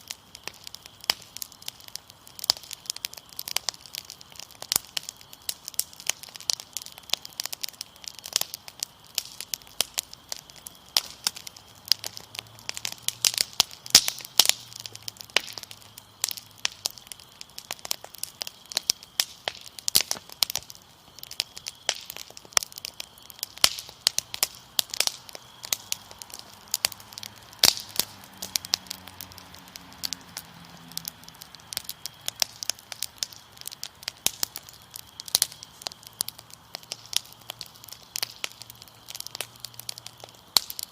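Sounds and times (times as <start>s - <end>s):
crickets trilling: 0.0s - 40.9s
fire crackling and popping: 0.0s - 40.9s.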